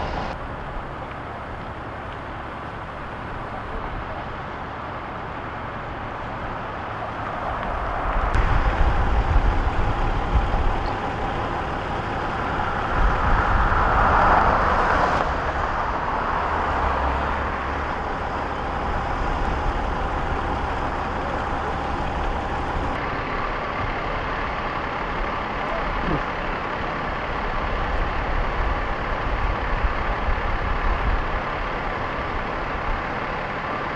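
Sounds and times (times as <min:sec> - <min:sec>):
large vehicle engine running: 0:00.0 - 0:33.9
outdoor noise: 0:00.0 - 0:33.9.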